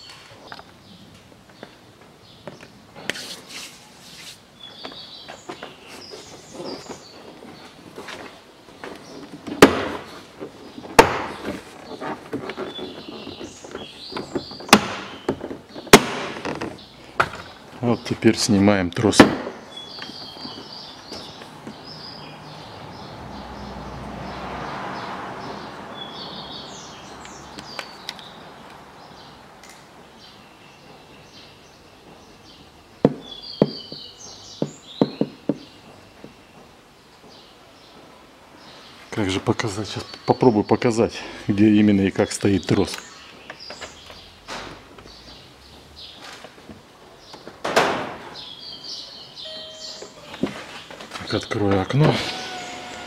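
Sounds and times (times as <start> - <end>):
birds chirping: 4.5 - 53.0.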